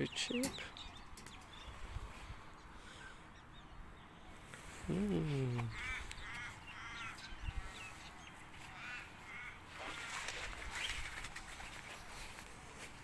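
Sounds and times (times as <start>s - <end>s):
birds making harsh calls: 0.0s - 13.0s.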